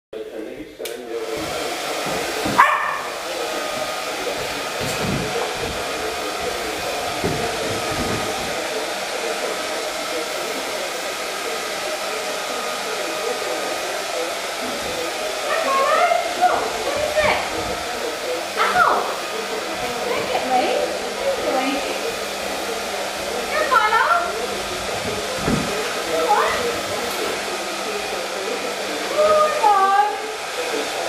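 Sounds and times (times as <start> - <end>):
hair dryer blowing: 0.8 - 31.0.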